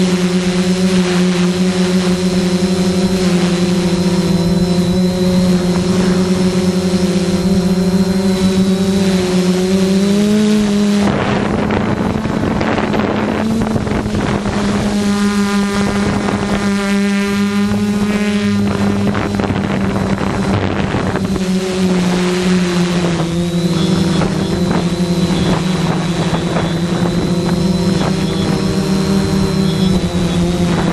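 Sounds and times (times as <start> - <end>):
drone propellers humming: 0.0 - 30.9
wind buffeting microphone: 2.1 - 30.9.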